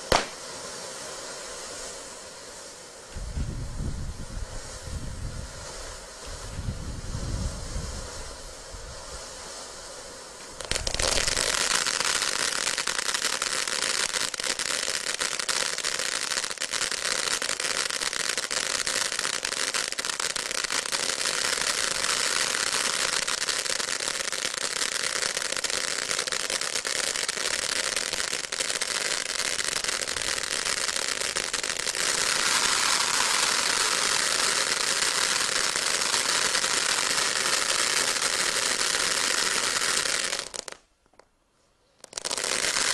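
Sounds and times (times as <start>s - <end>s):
firework fountain hissing and crackling: 0.0s - 41.2s, 41.8s - 42.9s.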